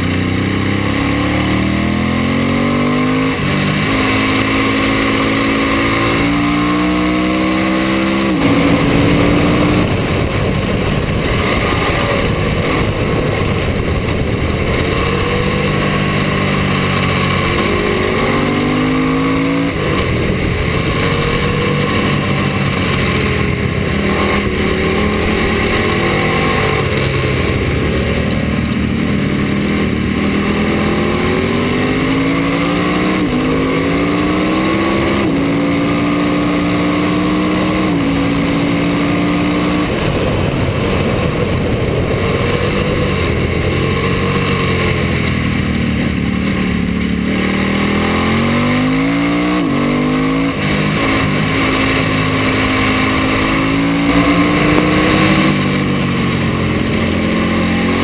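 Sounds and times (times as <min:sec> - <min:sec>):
motorcycle engine revving: 0:00.0 - 0:58.0
wind rush: 0:03.1 - 0:36.4, 0:37.0 - 0:58.0.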